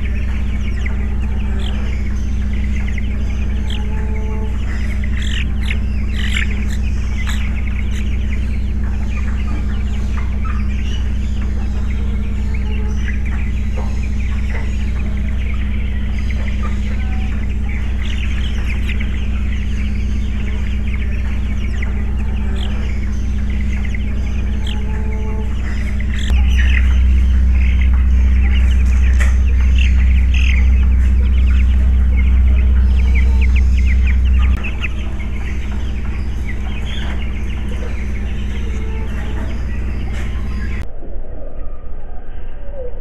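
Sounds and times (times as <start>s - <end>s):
chicks cheeping: 0.0s - 40.8s
steady low hum: 0.0s - 43.0s.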